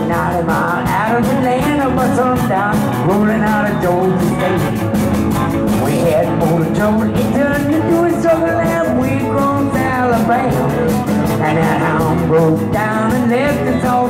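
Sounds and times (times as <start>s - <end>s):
people singing: 0.0s - 4.8s, 5.8s - 14.0s
acoustic guitar: 0.0s - 14.0s
drums with steady beat: 0.0s - 14.0s.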